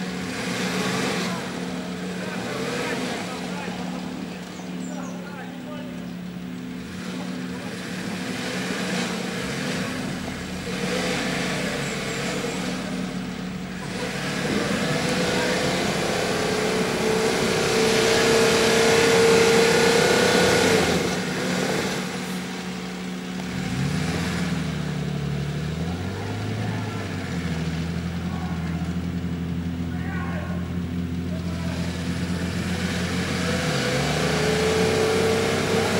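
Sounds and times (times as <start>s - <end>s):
engine revving under load: 0.0s - 29.9s, 30.6s - 35.9s.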